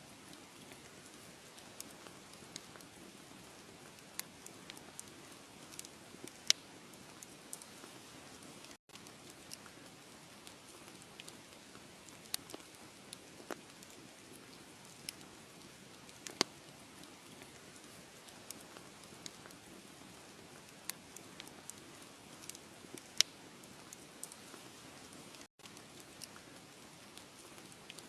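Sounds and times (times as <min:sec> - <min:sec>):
wood fire crackling and popping: 0:00.2 - 0:28.0.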